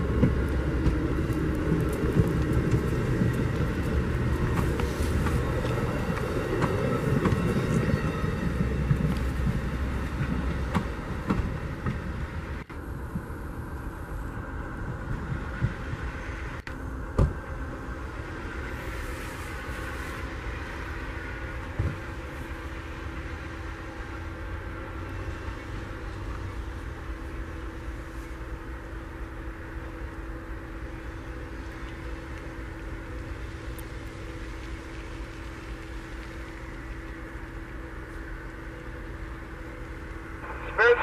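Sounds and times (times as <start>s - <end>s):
faint hum: 0.0s - 41.0s
train rumbling: 0.0s - 41.0s.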